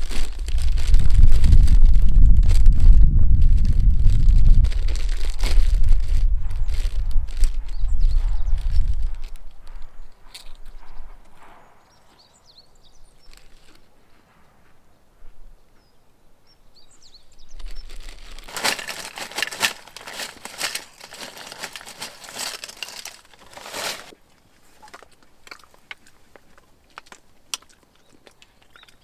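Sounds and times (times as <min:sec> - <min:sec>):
crinkling crackling rustle: 0:00.0 - 0:12.2, 0:13.0 - 0:14.6, 0:17.2 - 0:29.0.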